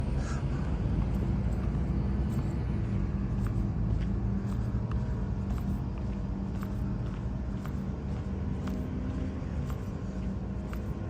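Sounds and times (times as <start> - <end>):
tram rumbling on track: 0.0 - 11.0.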